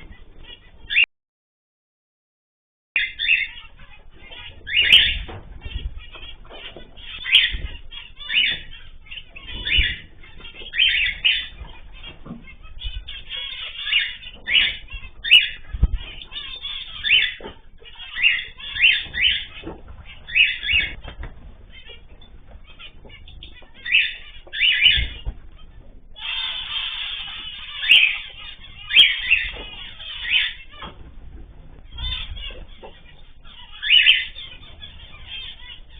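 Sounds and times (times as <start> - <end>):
cage birds harsh calling: 0.0 - 1.1, 3.0 - 35.9.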